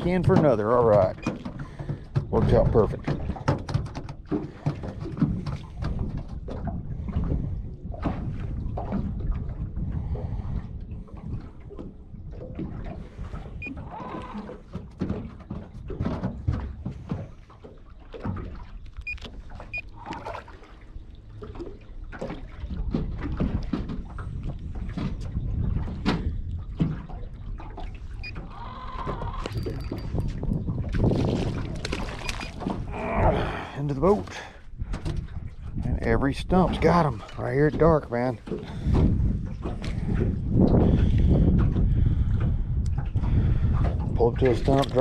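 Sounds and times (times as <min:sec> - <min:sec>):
wind rumble on microphone: 0:00.0 - 0:20.4, 0:21.1 - 0:45.0
waves lapping against boat hull: 0:00.0 - 0:45.0.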